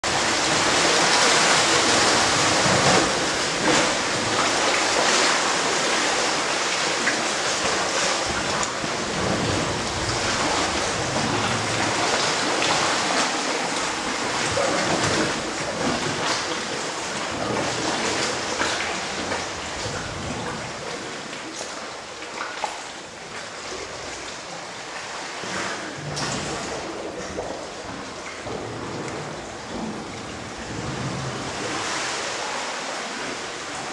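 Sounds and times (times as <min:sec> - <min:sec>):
seawater washing and sloshing: 0:00.0 - 0:33.9
water splashes: 0:00.0 - 0:33.9.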